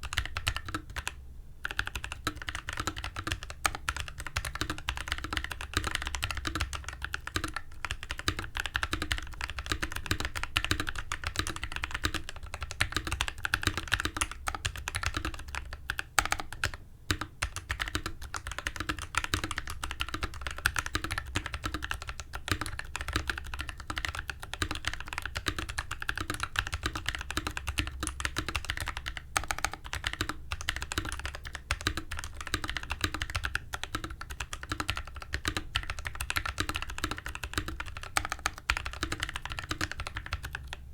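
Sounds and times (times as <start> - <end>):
mechanical keyboard typing: 0.0 - 40.8.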